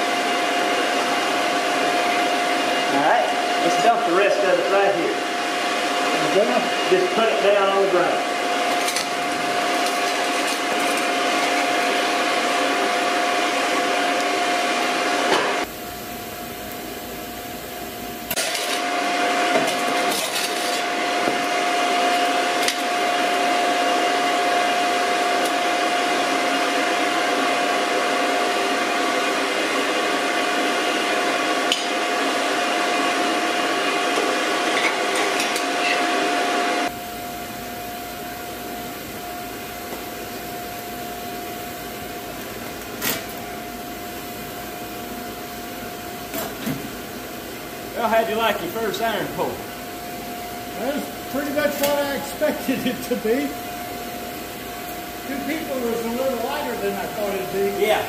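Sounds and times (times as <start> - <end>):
air blower roaring: 0.0 - 58.0.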